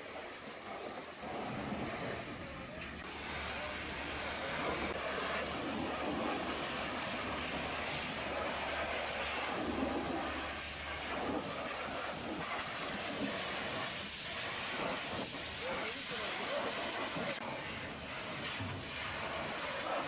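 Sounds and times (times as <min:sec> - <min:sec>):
water jet spraying on metal: 0:00.0 - 0:20.0.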